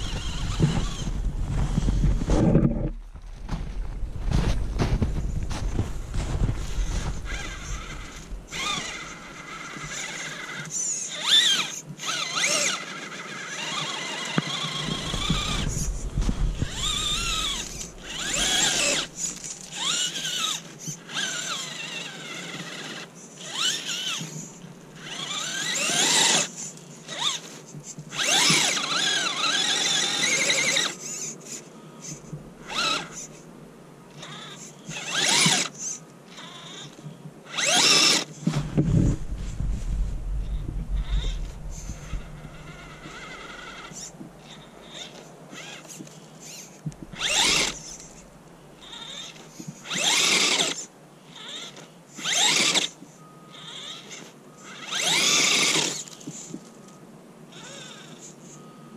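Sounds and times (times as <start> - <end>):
electric motor whining: 0.0 - 31.4, 32.0 - 33.4, 34.1 - 58.8.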